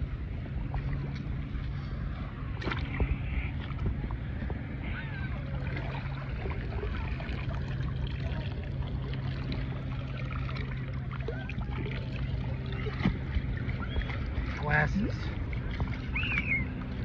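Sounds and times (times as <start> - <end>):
steady low hum: 0.0 - 17.0
water sloshing around wader: 0.0 - 17.0
small splashes: 0.5 - 4.2, 4.8 - 17.0.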